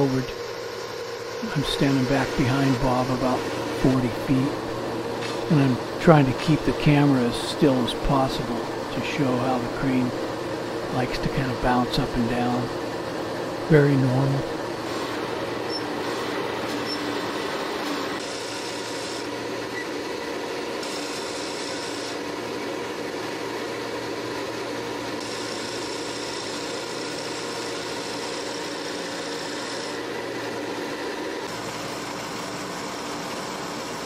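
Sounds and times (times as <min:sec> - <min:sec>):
crane machinery humming: 0:00.0 - 0:34.0.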